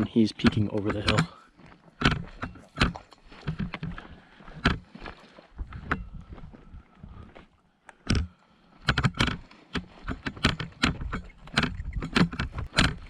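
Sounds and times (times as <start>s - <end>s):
carried gear rattling: 0.0s - 7.4s, 8.0s - 13.0s
footsteps on rough ground: 0.0s - 13.0s.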